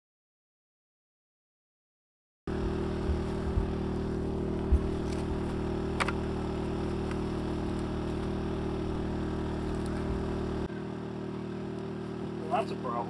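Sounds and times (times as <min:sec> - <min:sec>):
portable generator running: 0:02.5 - 0:13.0.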